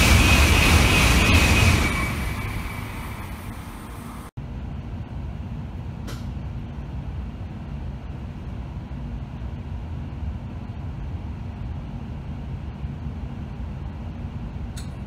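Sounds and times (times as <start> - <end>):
train cabin low hum: 0.0 - 15.0.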